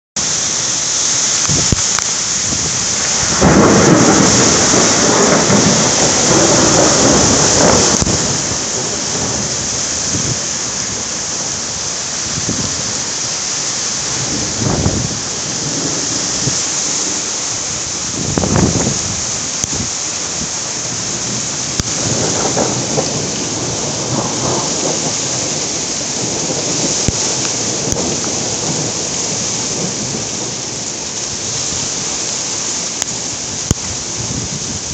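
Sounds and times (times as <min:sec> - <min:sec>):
heavy rain pouring: 0:00.2 - 0:34.9
thunder rumbling: 0:00.3 - 0:34.9.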